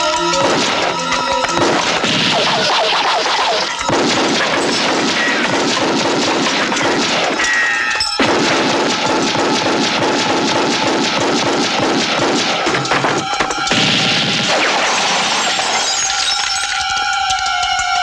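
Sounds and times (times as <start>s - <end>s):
impacts and crashes: 0.3s - 17.4s
rapid handgun fire: 0.4s - 15.8s.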